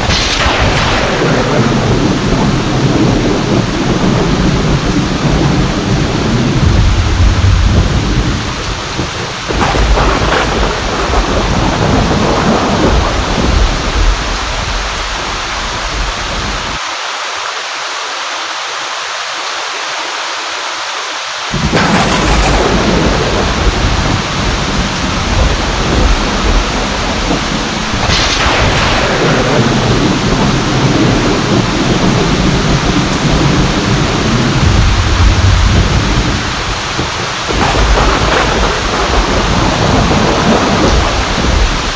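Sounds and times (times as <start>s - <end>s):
thunder crack: 0.0s - 15.1s, 21.5s - 41.9s
rolling thunder: 0.0s - 16.8s, 21.5s - 41.9s
heavy rain: 0.0s - 41.9s.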